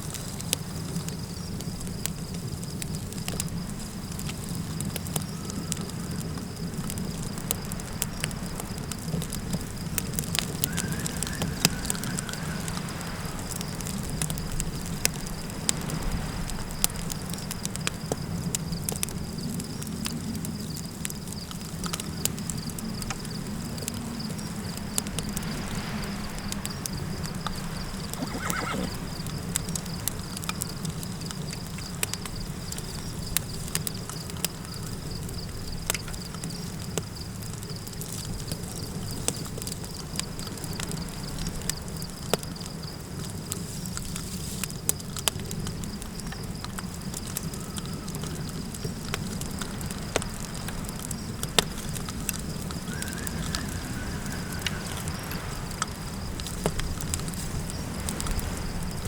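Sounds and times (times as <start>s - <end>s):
low wind rumble: 0.0s - 44.2s, 45.0s - 59.0s
campfire crackling and popping: 0.0s - 59.0s.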